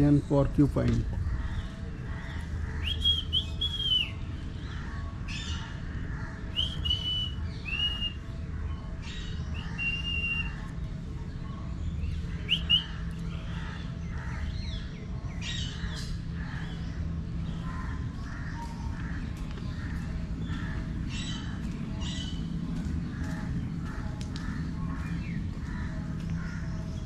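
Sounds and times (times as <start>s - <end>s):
birds whistling chirps: 0.0s - 27.0s
steady low hum: 0.0s - 27.0s.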